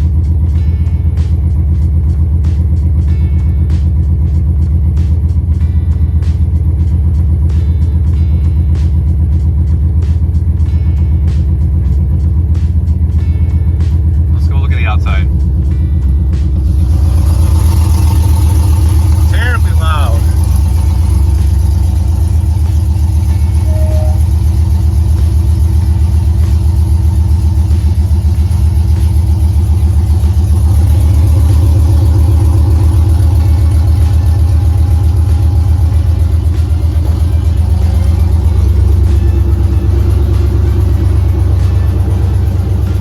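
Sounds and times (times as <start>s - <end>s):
loud car engine running: 0.0s - 43.0s.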